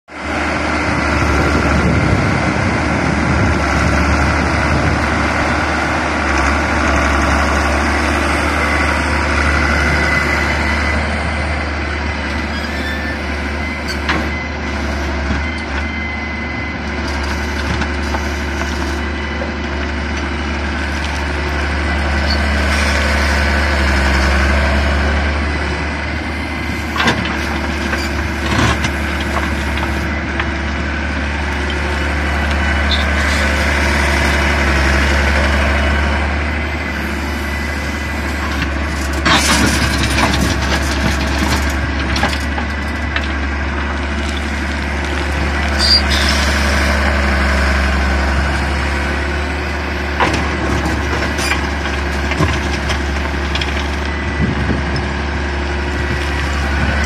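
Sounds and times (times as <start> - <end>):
excavator diesel engine running: 0.1 - 57.0.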